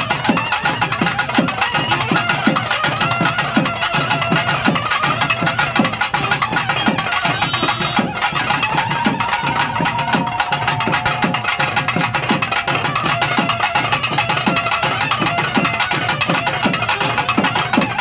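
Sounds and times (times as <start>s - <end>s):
fast festival drumming: 0.0s - 18.0s.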